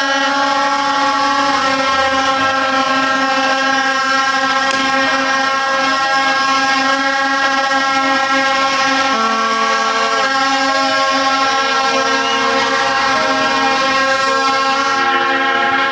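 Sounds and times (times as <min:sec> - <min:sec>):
plastic stadium horns droning: 0:00.0 - 0:15.9.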